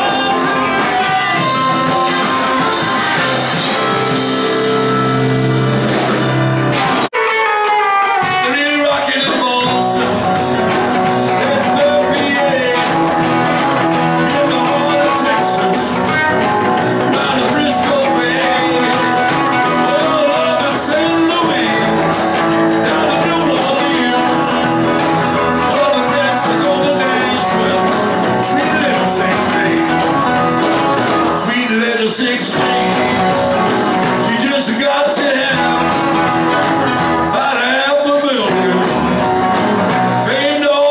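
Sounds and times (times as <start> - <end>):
person singing: 0.0 - 5.1, 6.8 - 40.9
rock and roll band playing: 0.0 - 40.9.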